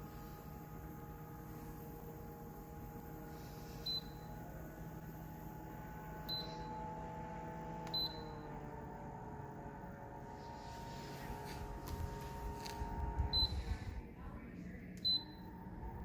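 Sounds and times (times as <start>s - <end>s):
air cooler fan humming: 0.0s - 16.0s.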